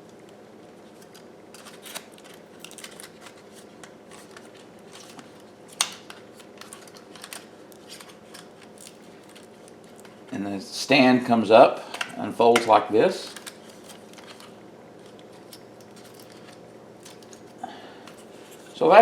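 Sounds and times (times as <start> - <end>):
rustling handling noises: 0.2 - 10.6, 11.9 - 19.0.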